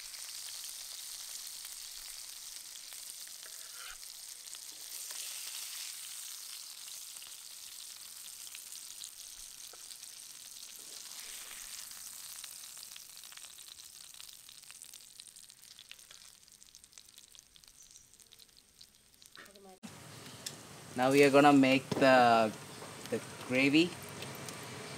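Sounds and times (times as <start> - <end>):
hot oil sizzling in frying pan: 0.0 - 19.8, 21.0 - 24.9.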